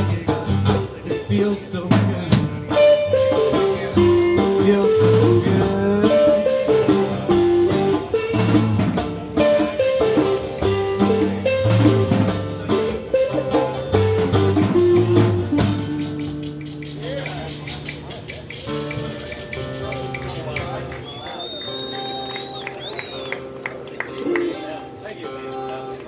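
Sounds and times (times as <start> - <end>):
drum kit: 0.0 - 21.0
bass guitar: 0.0 - 21.1
lead guitar solo: 2.6 - 26.0.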